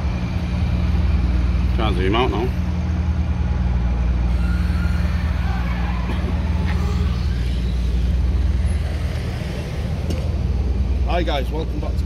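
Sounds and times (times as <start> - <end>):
lorry engine idling: 0.0 - 12.0.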